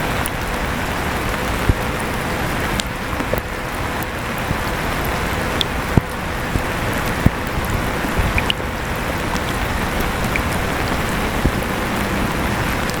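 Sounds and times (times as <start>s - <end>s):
raindrops tapping: 0.0s - 13.0s
steady rain: 0.0s - 13.0s.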